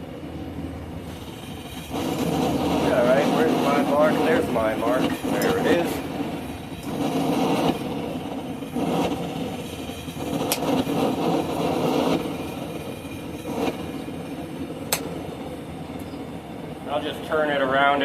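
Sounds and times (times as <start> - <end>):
forge fire roaring: 0.0 - 18.0.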